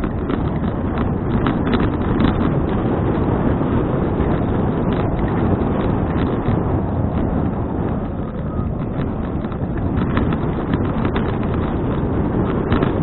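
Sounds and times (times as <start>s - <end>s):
bicycle clicking and rattling: 0.0s - 13.0s
wind buffeting microphone: 0.0s - 13.0s.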